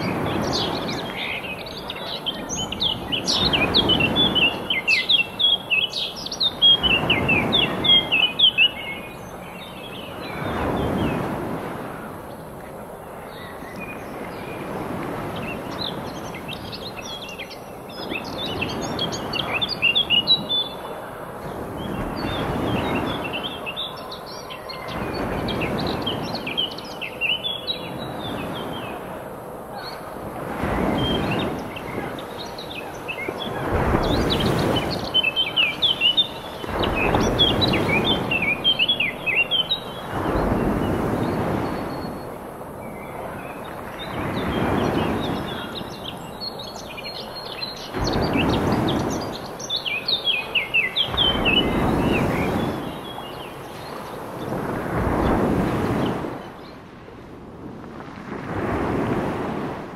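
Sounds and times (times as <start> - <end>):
birds chirping: 0.0 - 57.0
waves washing onto shore: 0.0 - 59.9.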